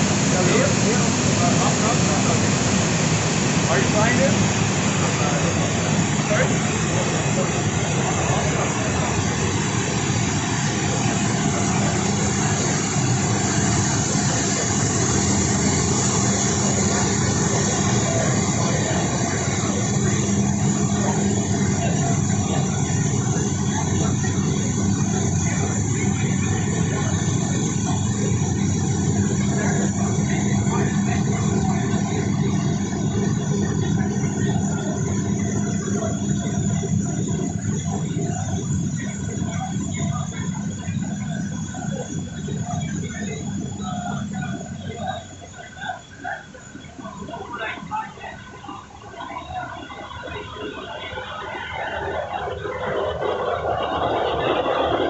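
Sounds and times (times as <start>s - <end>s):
low machinery hum: 0.0s - 55.0s.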